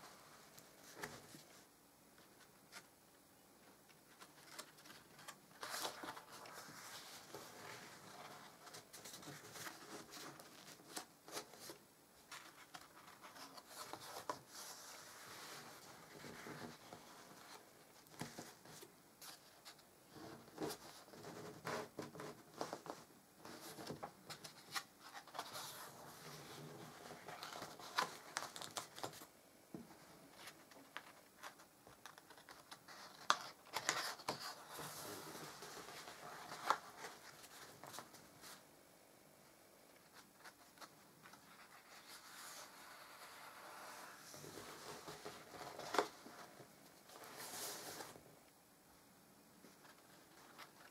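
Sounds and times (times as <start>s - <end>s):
paper rustling and scraping: 4.1s - 29.3s, 30.3s - 38.6s, 40.1s - 48.2s.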